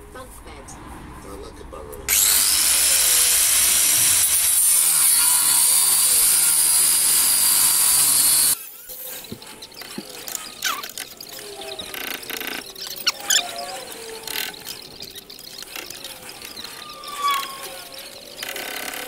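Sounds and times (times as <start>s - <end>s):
angle grinder cutting steel: 2.1s - 19.0s.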